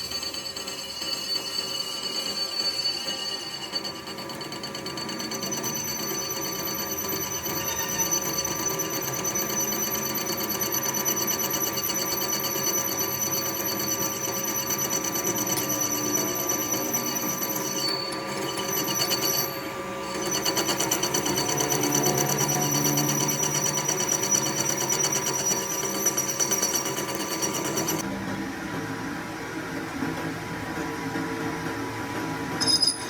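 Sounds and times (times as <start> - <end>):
fast pulsing rattle: 0.0 - 28.0
machine high ringing whine: 0.0 - 28.1, 32.5 - 33.0.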